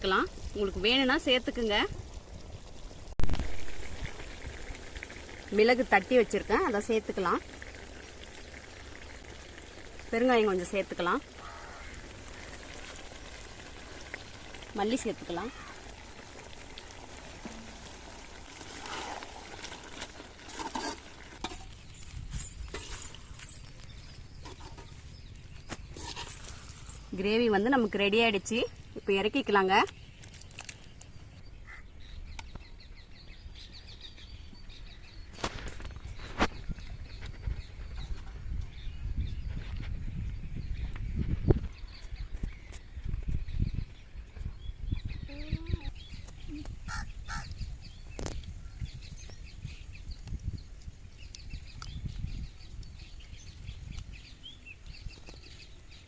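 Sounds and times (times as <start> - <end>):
small birds chirping: 4.1 - 56.0.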